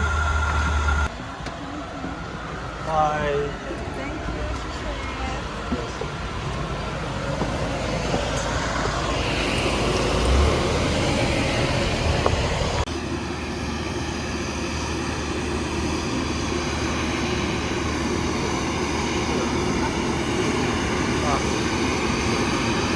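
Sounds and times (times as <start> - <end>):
turboprop engines running: 0.0 - 22.9.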